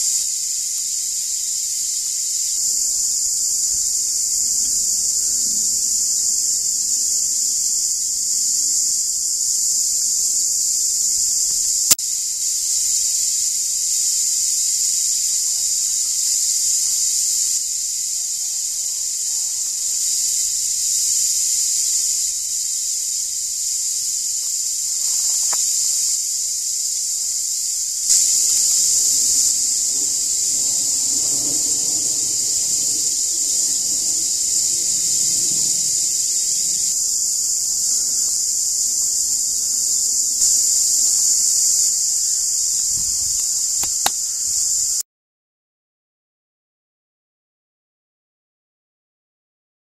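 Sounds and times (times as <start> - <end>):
cicadas chorus: 0.0 - 45.0.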